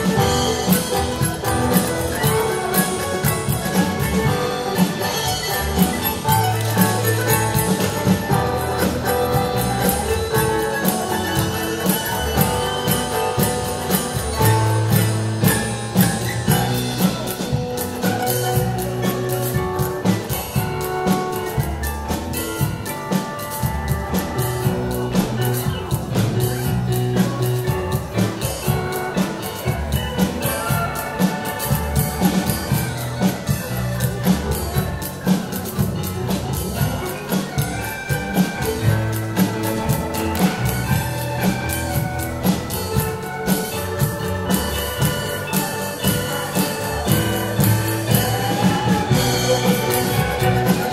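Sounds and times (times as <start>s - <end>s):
digital piano: 0.0s - 50.9s
drum kit beat: 0.0s - 50.9s.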